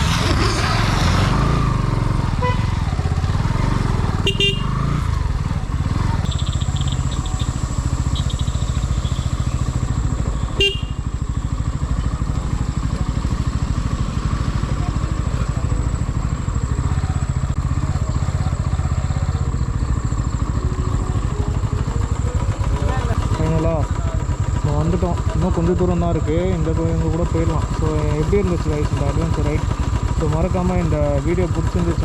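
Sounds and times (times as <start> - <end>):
vehicle engine rumbling: 0.0 - 32.0.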